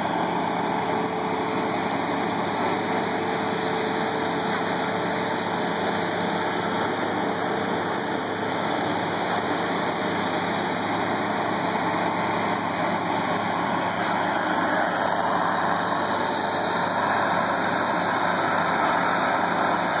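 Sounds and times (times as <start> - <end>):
power trowel engine running: 0.0 - 20.0.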